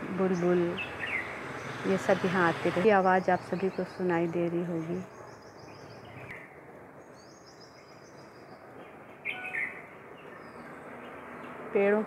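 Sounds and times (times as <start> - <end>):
birds calling: 0.2 - 12.0.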